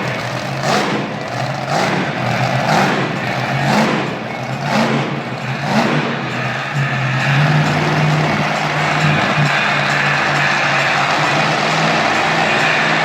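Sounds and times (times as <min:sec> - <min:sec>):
monster truck engine running: 0:00.0 - 0:13.0.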